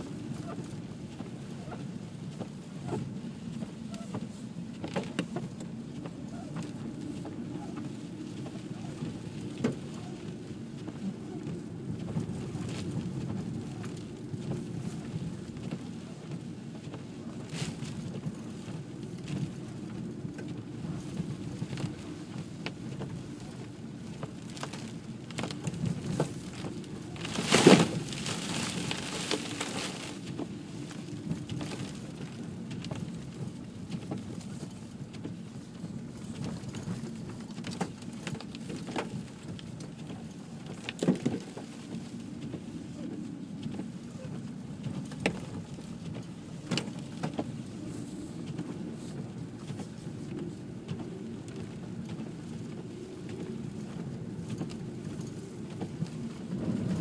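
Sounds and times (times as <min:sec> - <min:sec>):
engine and tyres rumbling: 0:00.0 - 0:57.0.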